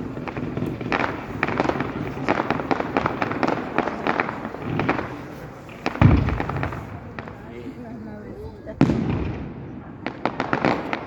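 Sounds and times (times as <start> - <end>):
heavy low firework boom: 0.0 - 7.6, 8.8 - 11.0
fireworks bangs and crackles: 0.0 - 11.0.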